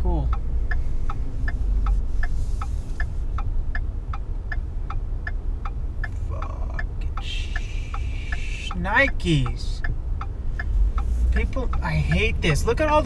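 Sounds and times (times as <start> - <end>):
engine rumble: 0.0 - 13.0
turn signal ticking: 0.0 - 13.0.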